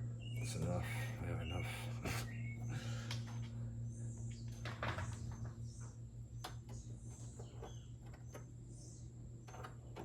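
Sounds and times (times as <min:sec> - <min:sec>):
birds chirping faintly: 0:00.0 - 0:10.0
low electrical hum: 0:00.0 - 0:10.0.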